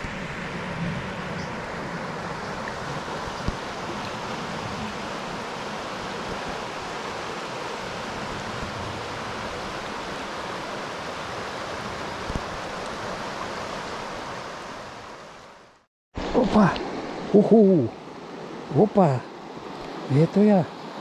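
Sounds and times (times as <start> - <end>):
river rushing over riffles: 0.0 - 21.0.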